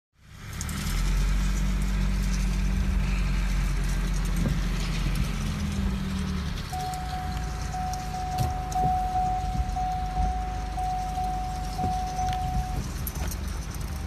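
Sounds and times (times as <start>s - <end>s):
vehicle engine running: 0.2s - 14.0s.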